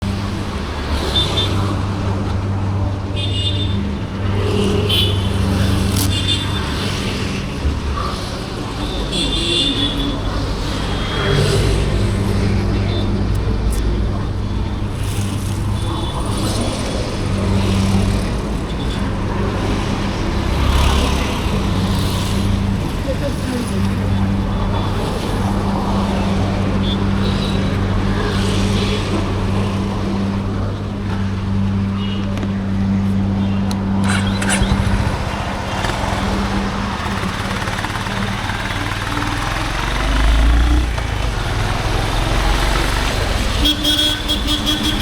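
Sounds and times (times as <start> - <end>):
motorcycle engine running: 1.7 - 45.0.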